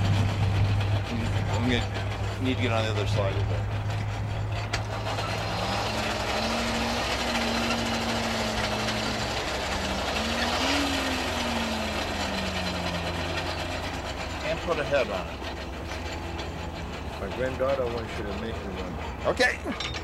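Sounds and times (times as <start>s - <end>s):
hand-cranked blower whirring: 0.0s - 20.0s
steady low hum: 0.0s - 20.0s.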